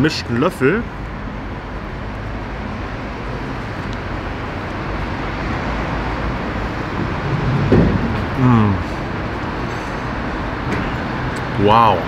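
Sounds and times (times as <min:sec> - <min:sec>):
ambient rumble and hiss: 0:00.0 - 0:12.0.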